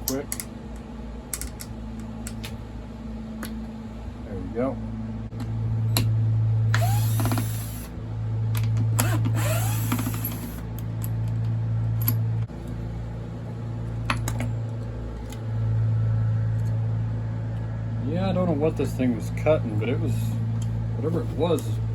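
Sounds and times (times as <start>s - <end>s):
low mechanical hum: 0.0s - 21.9s.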